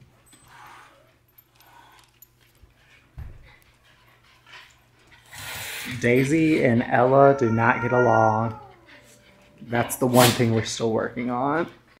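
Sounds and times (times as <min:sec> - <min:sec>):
puppy panting and sniffing: 0:00.0 - 0:12.0.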